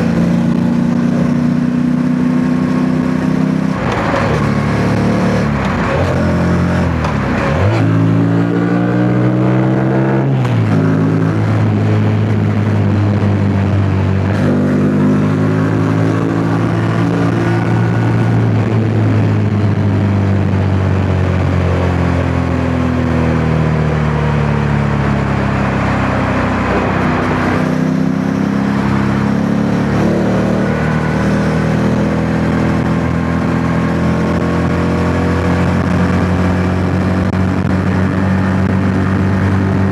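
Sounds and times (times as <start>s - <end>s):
motorcycle engine revving: 0.0s - 39.9s
wind noise on microphone: 2.7s - 39.9s.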